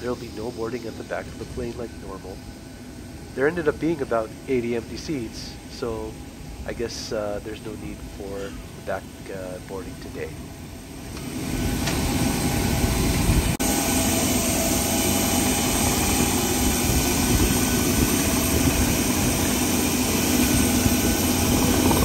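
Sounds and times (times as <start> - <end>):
jet aircraft rush and hum: 0.0 - 22.0.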